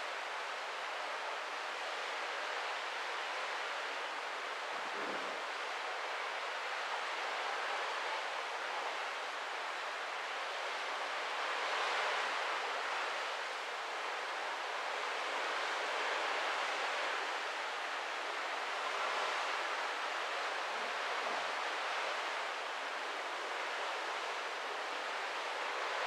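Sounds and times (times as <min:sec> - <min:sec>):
sea water rushing along hull: 0:00.0 - 0:26.0.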